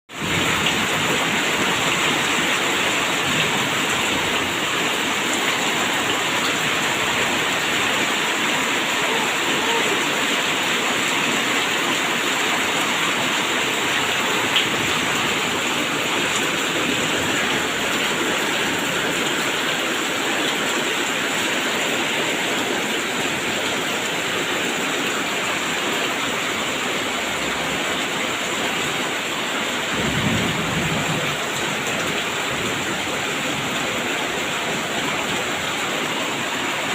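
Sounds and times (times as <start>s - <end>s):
rain falling: 0.1s - 36.9s.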